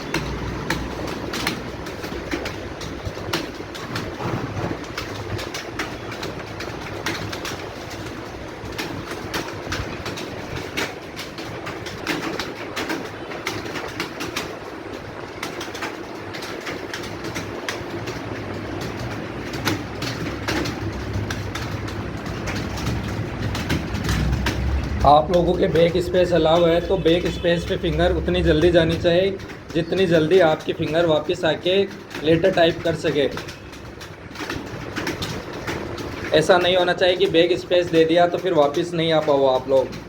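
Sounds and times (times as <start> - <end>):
keyboards typing clatter: 0.0 - 40.0.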